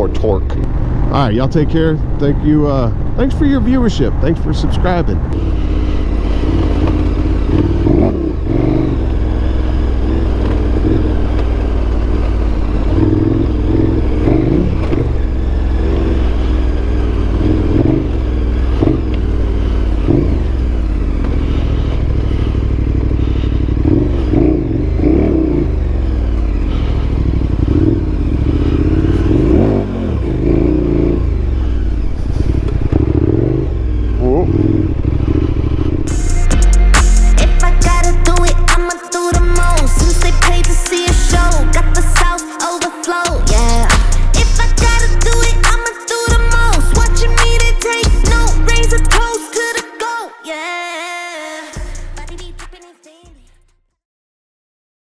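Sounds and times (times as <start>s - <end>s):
motorcycle engine revving: 0.0s - 50.1s, 51.7s - 52.8s.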